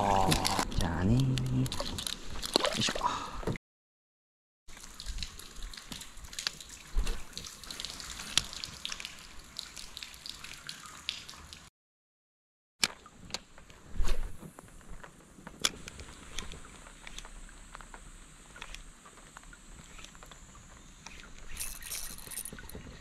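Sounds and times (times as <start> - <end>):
water splashes and drips: 0.0 - 3.2, 4.7 - 11.7, 14.4 - 23.0.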